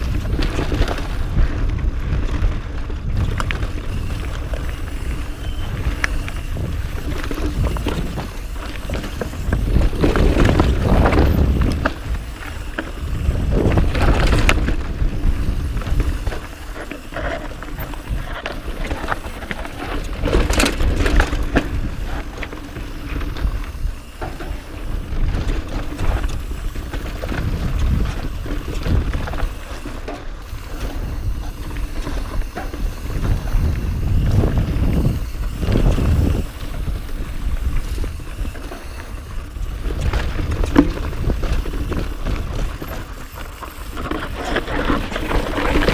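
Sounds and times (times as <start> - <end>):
bike rattling over bumps: 0.0 - 45.9
bike tyres rolling over dirt and rock: 0.0 - 45.9
wind rumbling on microphone: 0.0 - 45.9.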